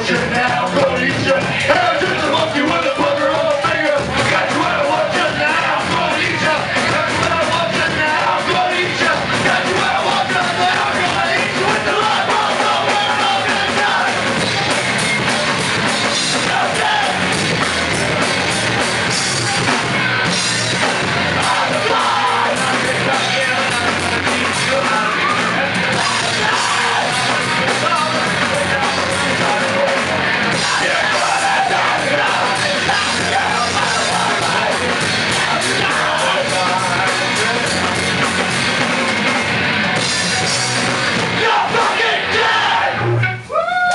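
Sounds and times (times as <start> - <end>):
shouted vocals: 0.0 - 15.0, 16.1 - 18.3, 19.3 - 38.1, 41.2 - 43.9
distorted electric guitar: 0.0 - 43.9
drum kit: 0.0 - 43.9.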